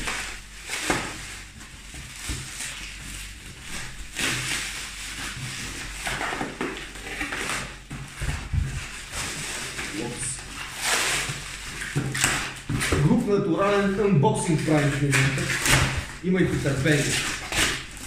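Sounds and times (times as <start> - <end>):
plastic wrap crinkling: 0.0 - 18.0.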